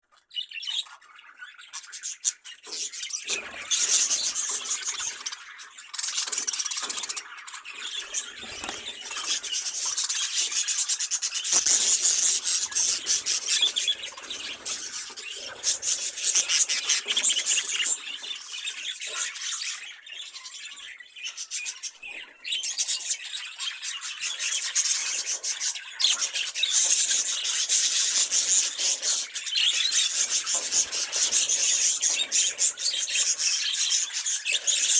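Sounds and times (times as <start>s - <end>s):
budgerigars chattering and warbling: 0.2s - 34.9s.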